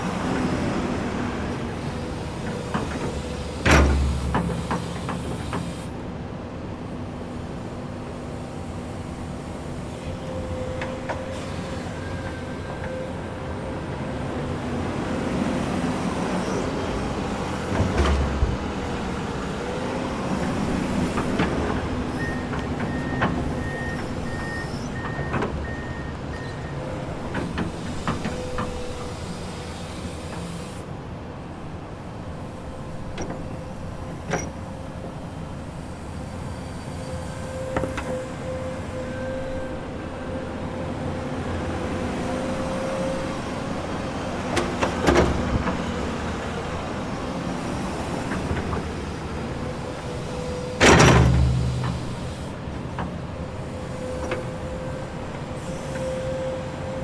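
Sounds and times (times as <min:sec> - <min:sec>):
excavator engine drone: 0:00.0 - 0:57.0.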